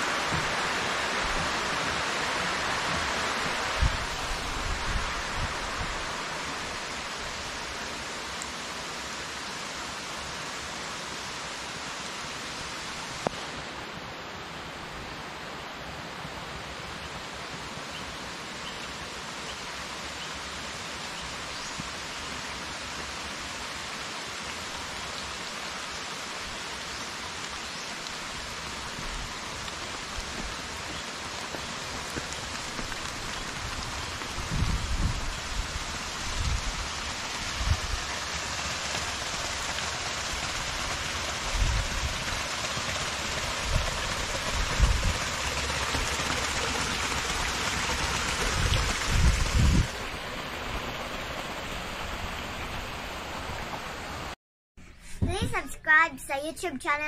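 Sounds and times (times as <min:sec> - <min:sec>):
rain on paving and plants: 0:00.0 - 0:54.4.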